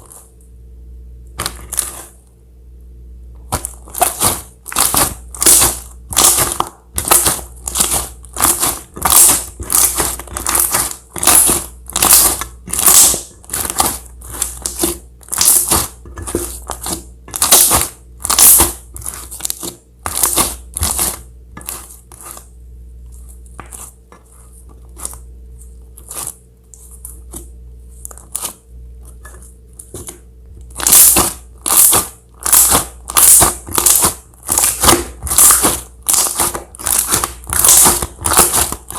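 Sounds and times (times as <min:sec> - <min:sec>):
slime squishing by hand: 0:01.3 - 0:02.2, 0:03.4 - 0:38.9.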